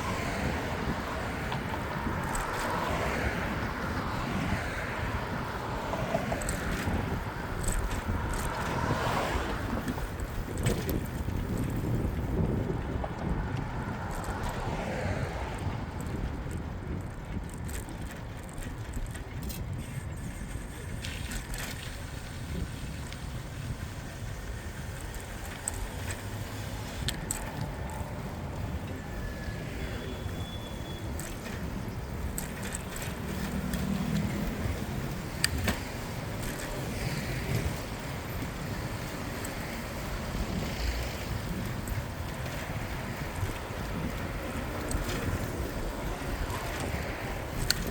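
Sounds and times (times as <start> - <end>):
passing vehicles: 0.0 - 47.9
wind and tyres rumble: 0.0 - 47.9.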